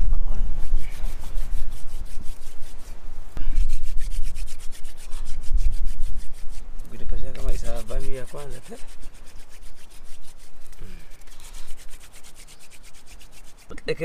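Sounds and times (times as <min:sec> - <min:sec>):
wood rubbing on wood: 0:00.0 - 0:14.0.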